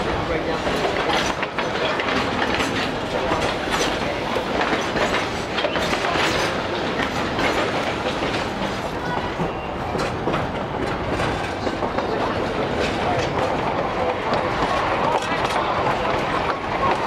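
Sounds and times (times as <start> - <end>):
train wheels clicking over rail joints: 0.4 - 17.0.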